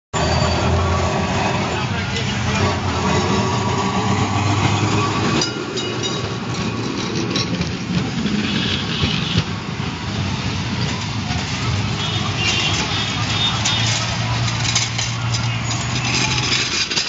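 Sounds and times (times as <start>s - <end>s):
tram wheels clattering on rails: 0.5s - 17.0s.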